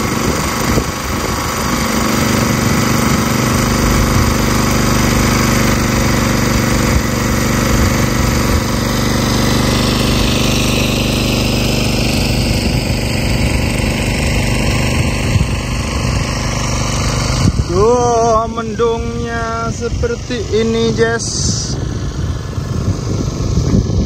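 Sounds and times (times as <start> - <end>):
engine water pump running: 0.0 - 24.0.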